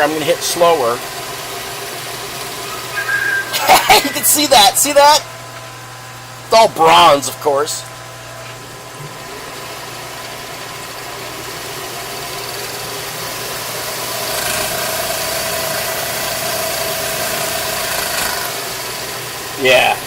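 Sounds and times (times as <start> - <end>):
lathe machine hum: 0.0 - 20.0
steady whine: 0.0 - 20.0.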